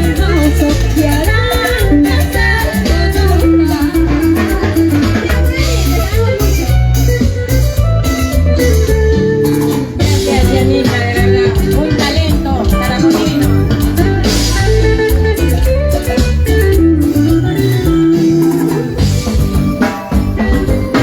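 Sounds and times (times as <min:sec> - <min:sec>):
loud band music with drums: 0:00.0 - 0:21.0.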